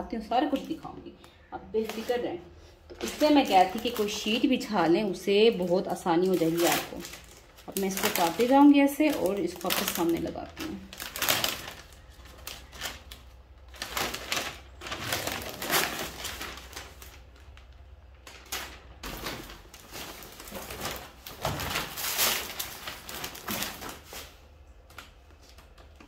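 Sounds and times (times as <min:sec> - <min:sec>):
plastic sheet rustling and crinkling: 0:00.0 - 0:26.0.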